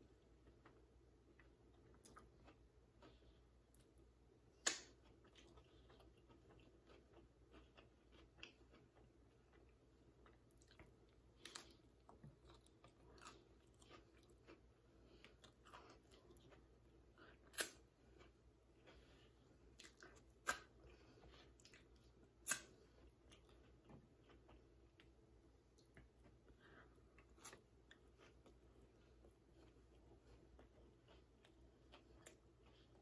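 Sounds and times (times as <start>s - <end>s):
chewing food: 0.1s - 33.0s.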